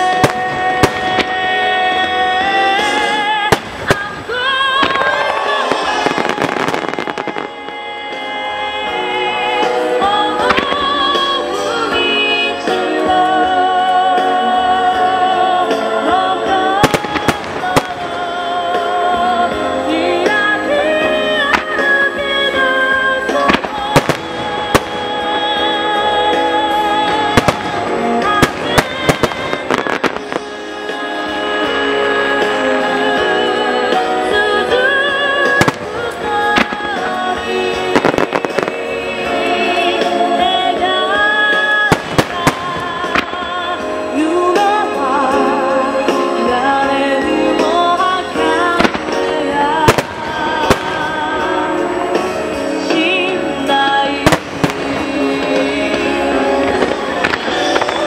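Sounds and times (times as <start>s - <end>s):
loud music: 0.0s - 58.0s
song with singing voice: 0.0s - 58.0s.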